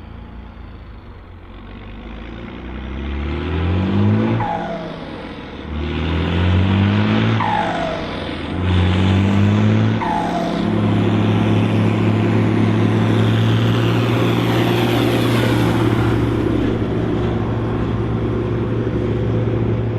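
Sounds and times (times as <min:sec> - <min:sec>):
tractor diesel engine pulling: 0:00.0 - 0:19.9.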